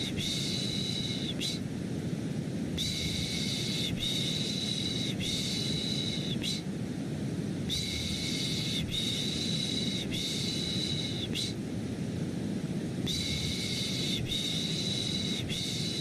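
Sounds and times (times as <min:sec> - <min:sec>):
white noise: 0:00.0 - 0:16.0.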